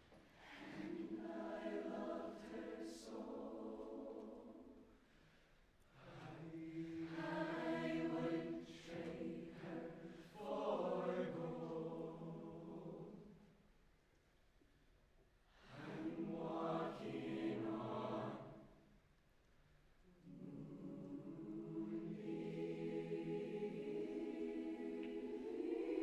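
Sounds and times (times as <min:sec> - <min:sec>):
choir singing softly: 0:00.0 - 0:14.3, 0:15.2 - 0:26.0.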